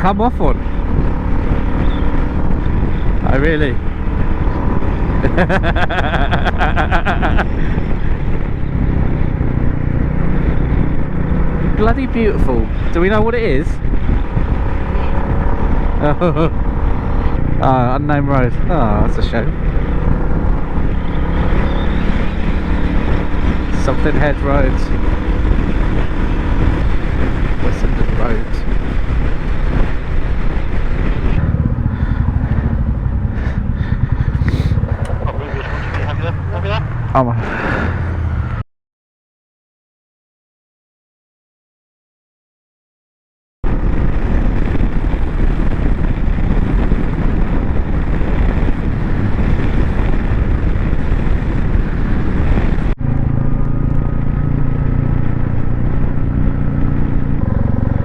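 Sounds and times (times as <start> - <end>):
motorcycle engine running: 0.0 - 37.3, 43.7 - 58.0
wind noise: 0.0 - 38.6, 43.6 - 58.0.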